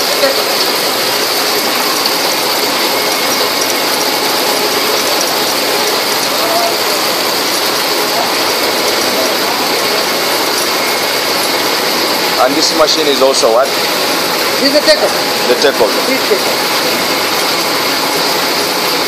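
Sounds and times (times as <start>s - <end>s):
machinery clattering and whirring: 0.0s - 19.0s.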